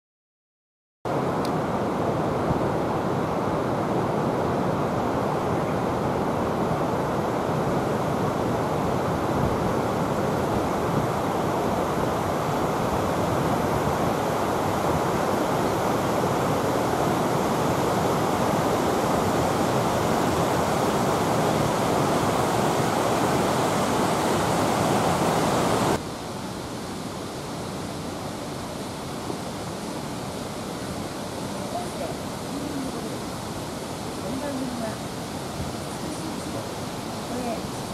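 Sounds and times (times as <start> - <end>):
running water rushing: 1.1 - 37.9.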